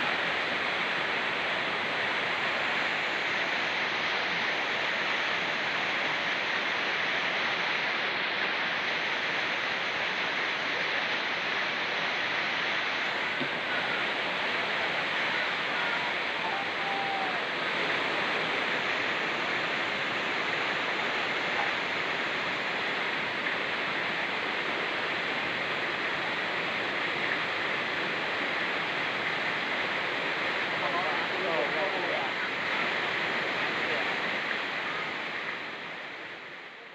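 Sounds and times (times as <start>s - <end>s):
falling rain: 0.0s - 36.9s
mountain river rushing: 0.0s - 36.9s.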